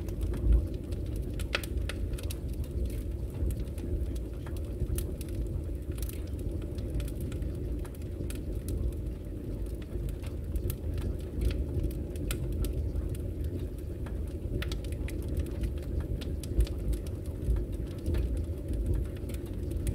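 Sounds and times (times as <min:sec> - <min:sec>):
faint crackles and ticks: 0:00.0 - 0:19.9
muffled low noise: 0:00.0 - 0:19.9.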